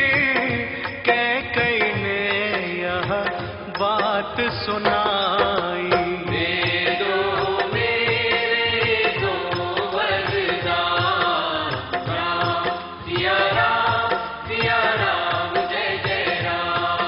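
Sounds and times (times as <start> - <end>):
devotional song melody: 0.0 - 17.0
steady drum beat: 0.0 - 17.0.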